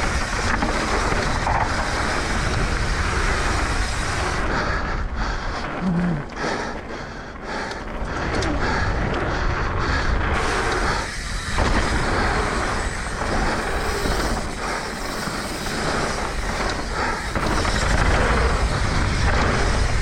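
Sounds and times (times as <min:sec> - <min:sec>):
bike rattling over bumps: 0:00.0 - 0:20.0
bike tyres on dirt trail: 0:00.0 - 0:20.0
wind buffeting microphone: 0:00.0 - 0:20.0.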